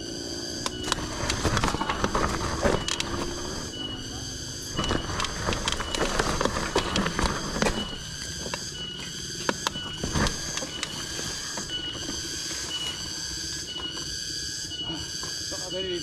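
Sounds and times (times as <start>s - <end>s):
cicadas buzzing: 0.0s - 16.0s
sharp clicks and rattles: 0.6s - 14.1s.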